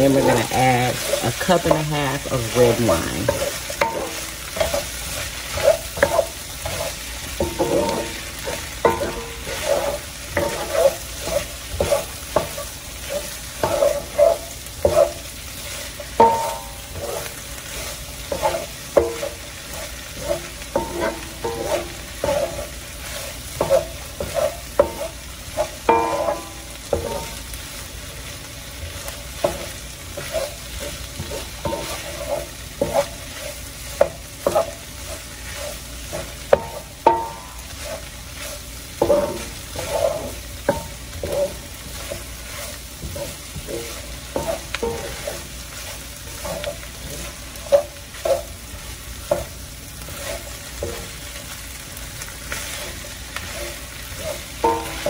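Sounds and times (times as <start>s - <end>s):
frying sizzle: 0.0s - 55.0s
wooden spoon scraping wok: 0.0s - 55.0s.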